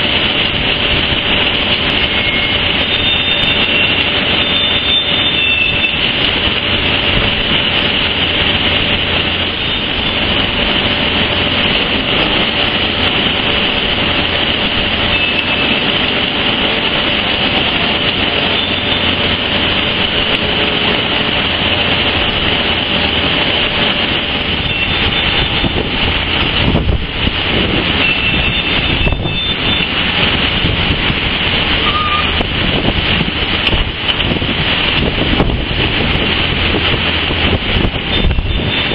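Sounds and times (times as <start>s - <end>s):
heavy construction machinery running: 0.0s - 38.9s.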